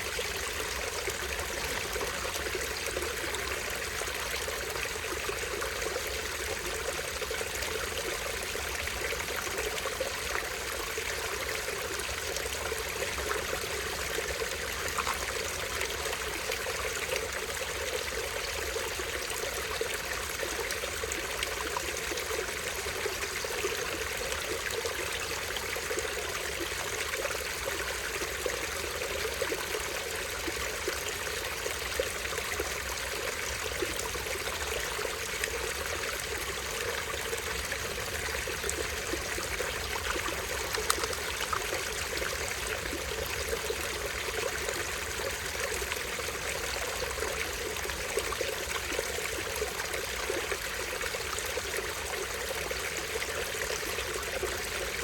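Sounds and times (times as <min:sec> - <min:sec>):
small stream flowing: 0:00.0 - 0:55.0.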